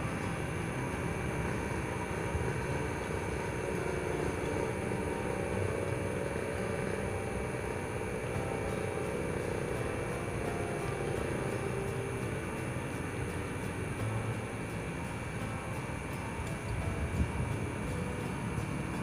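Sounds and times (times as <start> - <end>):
distant city traffic rumble: 0.0 - 19.0
faint high whine: 0.0 - 19.0.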